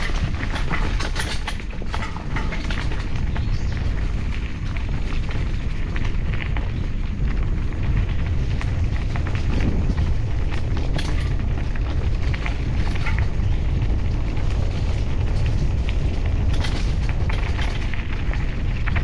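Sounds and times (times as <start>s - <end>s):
dry leaves and brush crackling: 0.0s - 19.0s
wind buffeting microphone: 0.0s - 19.0s.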